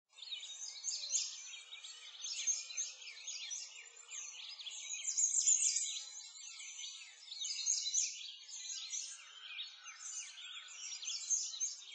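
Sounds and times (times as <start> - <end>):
small birds chirping and twittering: 0.1 - 11.9.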